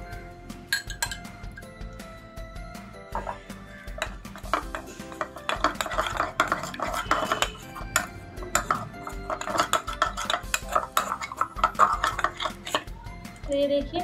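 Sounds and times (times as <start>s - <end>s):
background music: 0.0s - 14.0s
spoon clinking and scraping bowl: 0.7s - 1.7s, 3.1s - 13.5s.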